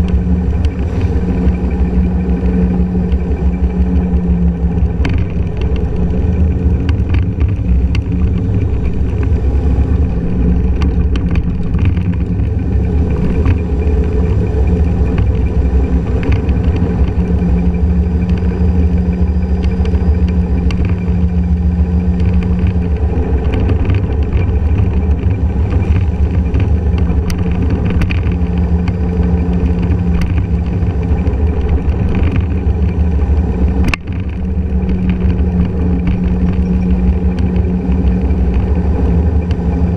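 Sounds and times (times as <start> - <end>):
road and wind rumble: 0.0 - 39.9
scooter engine humming: 0.0 - 39.9.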